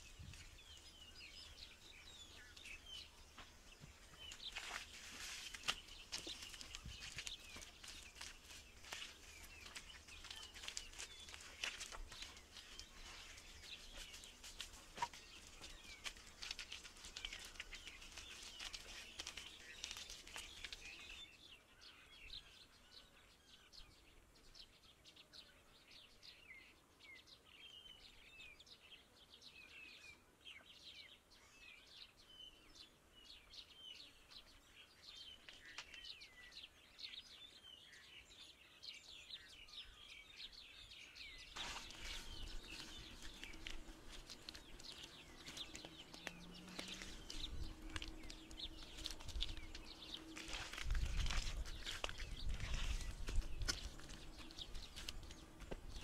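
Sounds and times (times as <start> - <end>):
birds chirping faintly: 0.0 - 56.0.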